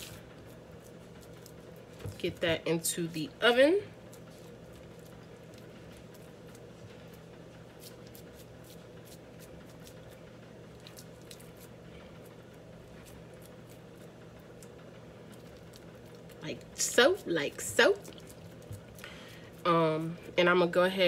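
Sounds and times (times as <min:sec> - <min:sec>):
hands squishing meat mixture: 0:00.0 - 0:02.4, 0:04.0 - 0:19.6
steady low hum: 0:00.0 - 0:21.0.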